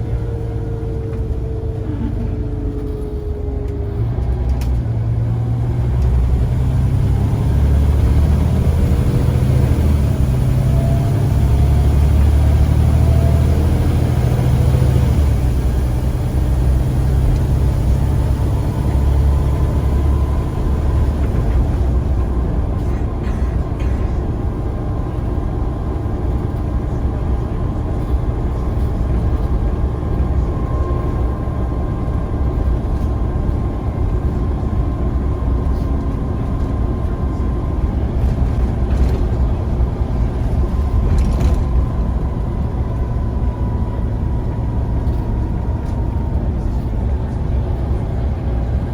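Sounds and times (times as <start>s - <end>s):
bus diesel engine droning: 0.0s - 48.9s.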